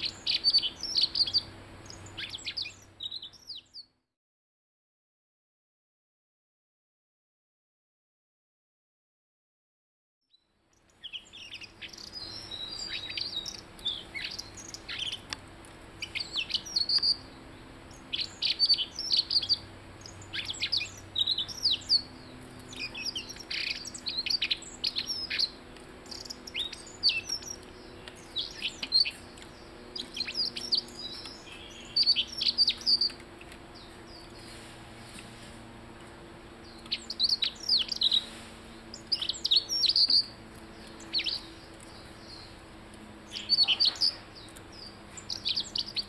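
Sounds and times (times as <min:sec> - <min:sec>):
bird singing chirps: 0:00.0 - 0:04.0, 0:10.3 - 0:15.4, 0:16.0 - 0:34.5, 0:36.5 - 0:46.0.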